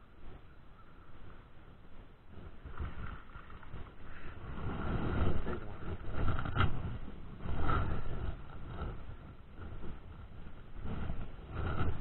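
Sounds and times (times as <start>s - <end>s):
wind rumble: 0.0s - 12.0s.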